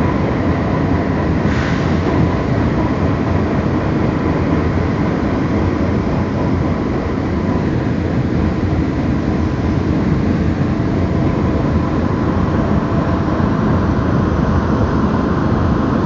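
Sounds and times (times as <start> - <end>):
faint steady whine: 0.0 - 16.0
train wheels rumbling on track: 0.0 - 16.0.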